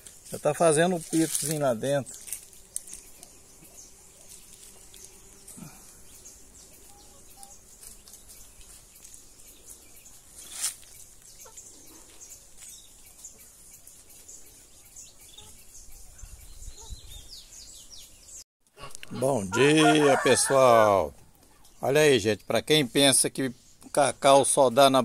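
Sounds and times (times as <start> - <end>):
small birds chirping: 0.0 - 18.4, 21.0 - 25.0.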